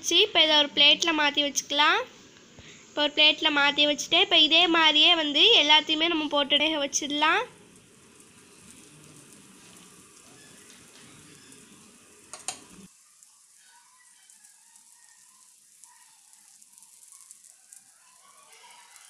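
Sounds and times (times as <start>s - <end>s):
pastries sizzling in oil: 0.0s - 19.0s.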